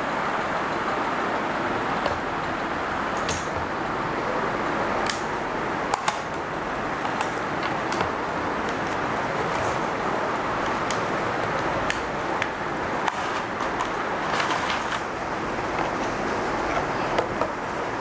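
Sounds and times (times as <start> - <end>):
steady rushing background noise: 0.0 - 18.0.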